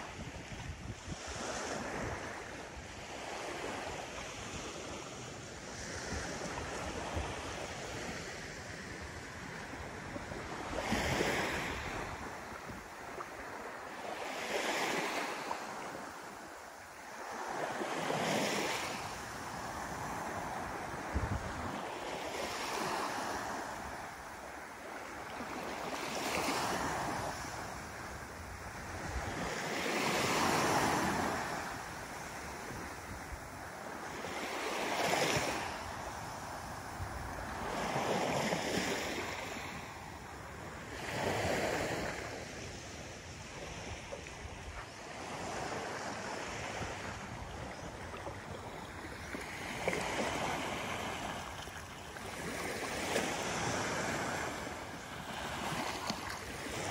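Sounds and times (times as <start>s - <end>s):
waves washing onto beach: 0.0s - 56.9s.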